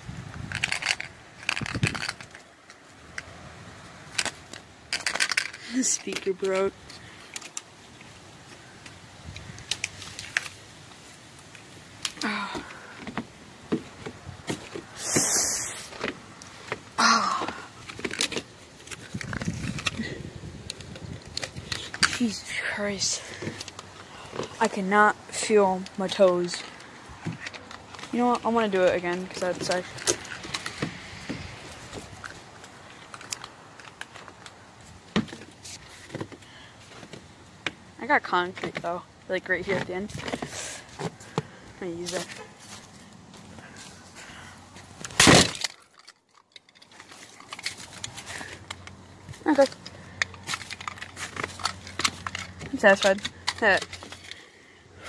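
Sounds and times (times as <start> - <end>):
plastic headset handled: 0.3 - 3.3, 4.0 - 10.7, 15.9 - 22.6, 23.2 - 37.8, 39.6 - 54.5
faint background hiss: 2.2 - 55.0.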